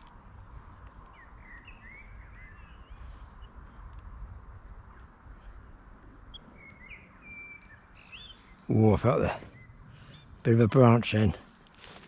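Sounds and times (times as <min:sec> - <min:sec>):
outdoor background rumble: 0:00.0 - 0:12.0
small birds chirping: 0:00.0 - 0:12.0.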